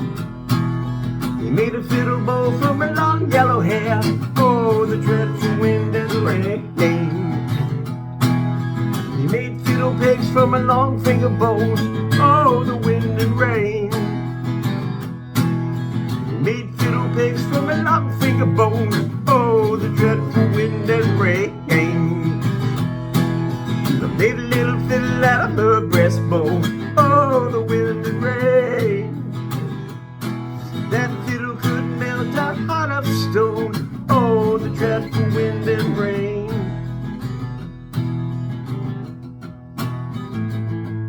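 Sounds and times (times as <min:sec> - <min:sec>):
acoustic guitar picking and strumming: 0:00.0 - 0:41.0.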